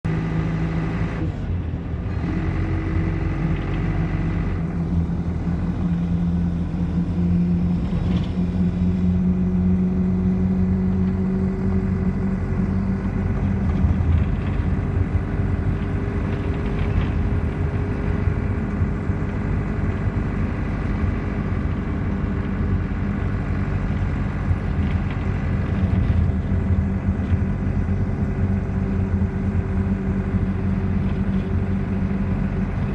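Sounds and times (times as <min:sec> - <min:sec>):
engine running steadily: 0:00.0 - 0:32.9.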